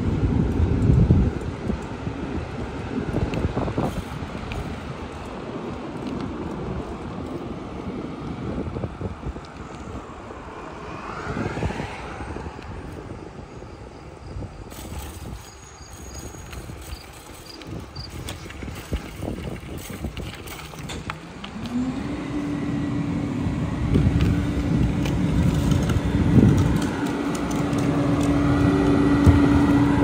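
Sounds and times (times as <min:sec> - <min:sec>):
engine whine: 0:00.0 - 0:30.0
low rumble of traffic: 0:00.0 - 0:30.0
wind on microphone: 0:00.0 - 0:30.0.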